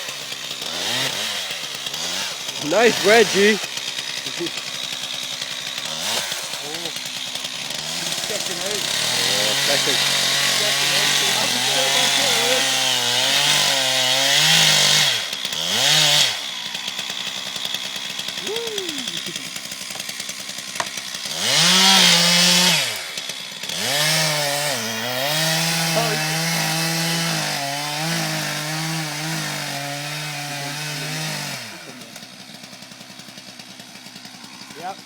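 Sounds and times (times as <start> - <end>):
chainsaw cutting tree: 0.0 - 35.0.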